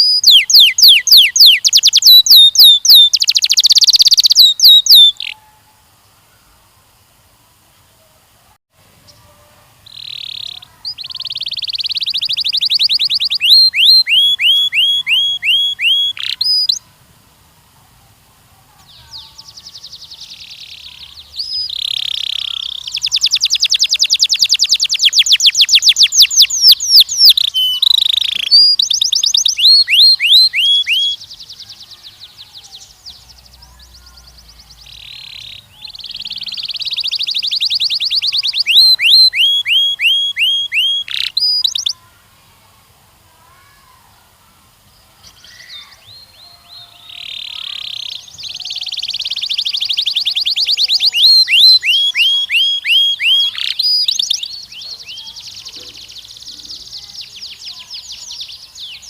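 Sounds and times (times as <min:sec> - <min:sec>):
canary singing trills: 0:00.0 - 0:05.8, 0:09.0 - 0:16.9, 0:18.7 - 0:42.1, 0:45.2 - 0:59.0.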